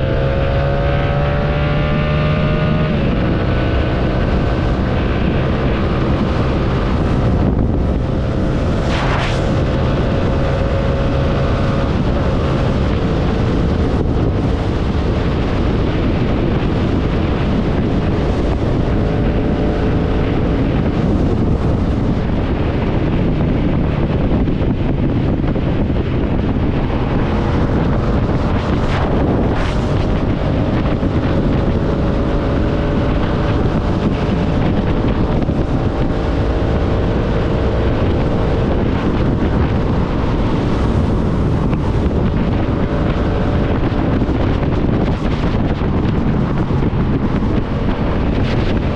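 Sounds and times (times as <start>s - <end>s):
motorcycle engine running: 0.0s - 48.9s
wind rush on microphone: 0.0s - 48.9s.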